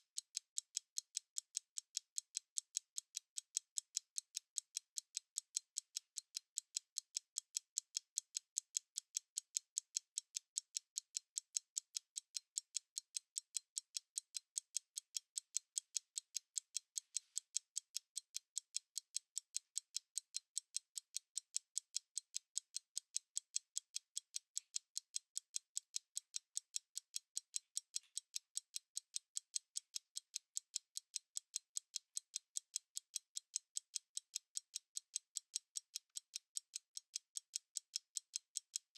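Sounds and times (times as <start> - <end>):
stopwatch ticking: 0.0 - 38.9.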